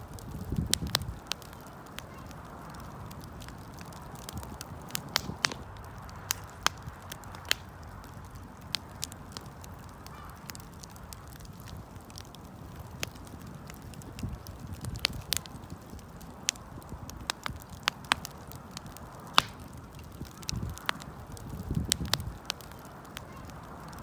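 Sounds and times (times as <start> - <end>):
campfire crackling and popping: 0.0 - 24.0
low rumble of burning fire: 0.0 - 24.0.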